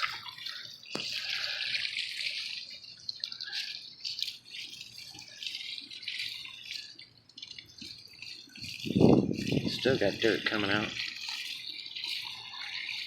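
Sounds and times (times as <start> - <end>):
hose water spraying on metal: 0.0 - 13.0.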